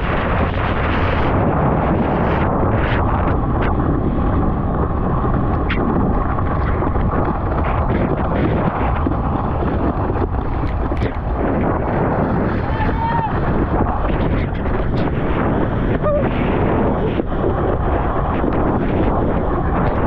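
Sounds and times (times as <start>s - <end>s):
ocean water: 0.0s - 20.0s
wind buffeting microphone: 0.0s - 20.0s.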